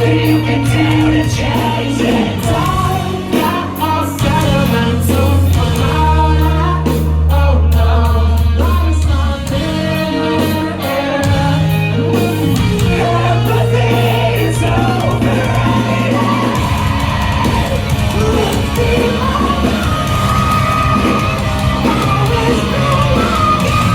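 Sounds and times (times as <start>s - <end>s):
low bass notes: 0.0s - 23.9s
person singing: 0.0s - 23.9s.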